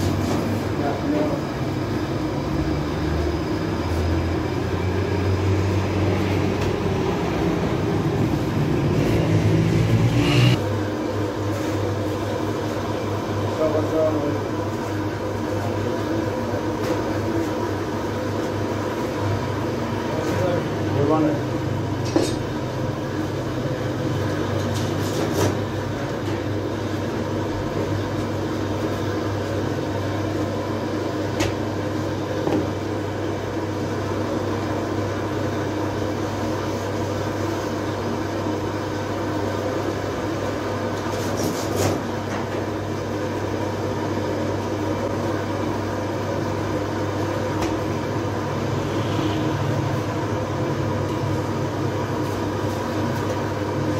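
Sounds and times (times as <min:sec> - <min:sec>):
bakery machinery humming: 0:00.0 - 0:53.9.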